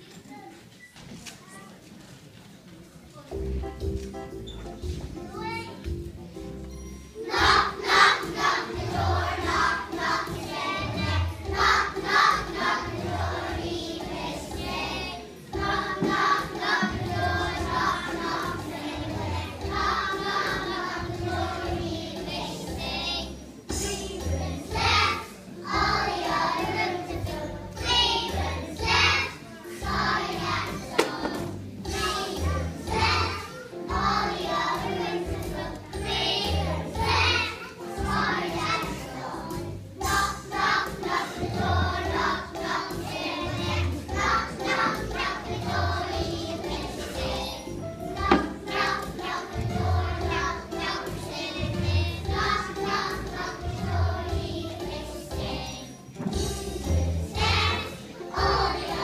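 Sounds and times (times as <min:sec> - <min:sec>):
children singing: 0:07.2 - 0:59.0.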